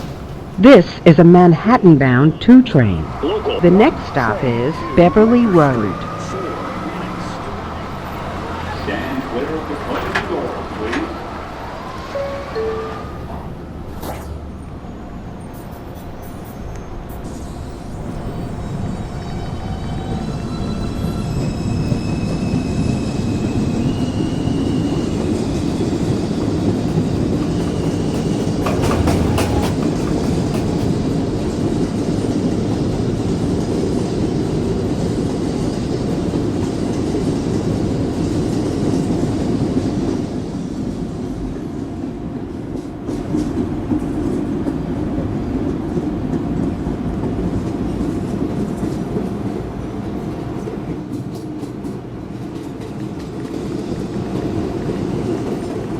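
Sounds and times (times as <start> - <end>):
train wheels rumbling on rails: 0.0 - 55.9
train clatter: 2.0 - 13.9, 15.4 - 55.9.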